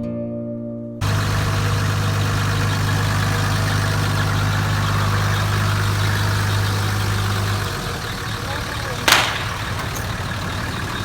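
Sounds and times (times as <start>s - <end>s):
car engine droning: 1.0s - 11.0s.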